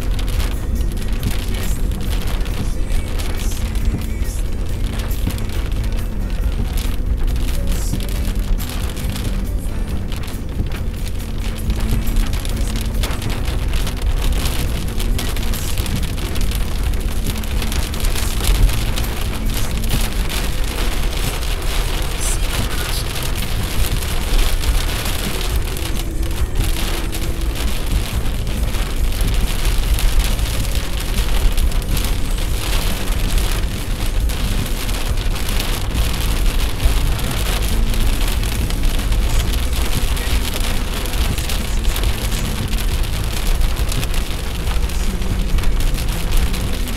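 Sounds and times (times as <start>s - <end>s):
continuous low rumble: 0.0s - 46.9s
heavy rain pattering: 0.0s - 46.9s.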